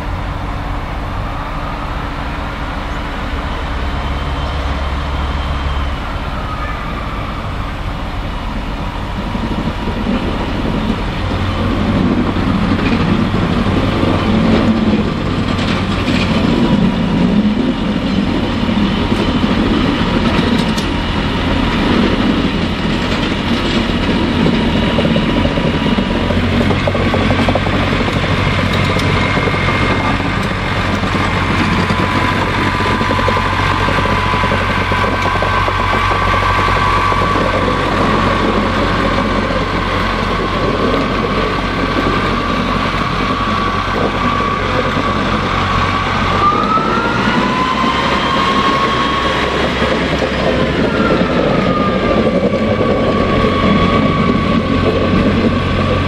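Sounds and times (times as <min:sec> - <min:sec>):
diesel train engine running: 0:00.0 - 0:56.0
train wheels clicking and squealing: 0:00.0 - 0:56.0.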